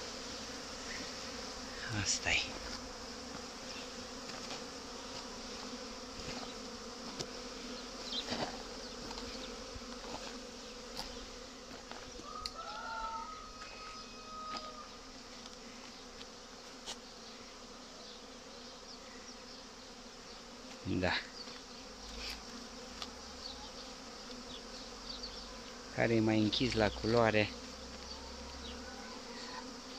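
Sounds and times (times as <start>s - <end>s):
honey bees buzzing: 0.0s - 29.9s.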